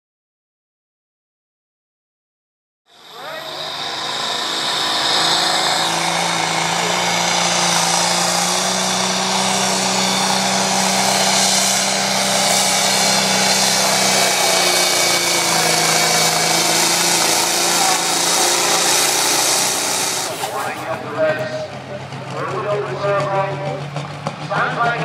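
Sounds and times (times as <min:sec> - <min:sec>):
tractor engine at high revs: 0:02.9 - 0:25.0.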